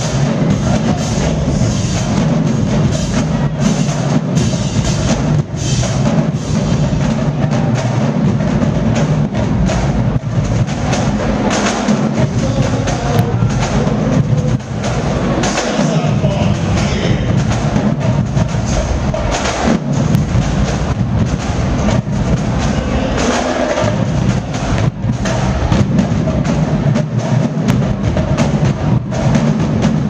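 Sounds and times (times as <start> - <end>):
drumline: 0.0 - 30.0
marching band playing: 0.0 - 30.0.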